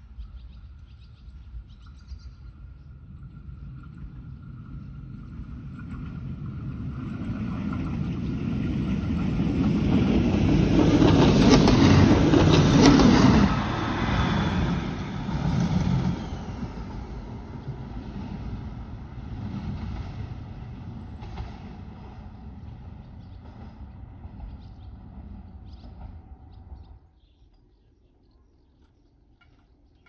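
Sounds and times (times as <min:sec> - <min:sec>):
diesel railcar passing: 0:00.0 - 0:27.2.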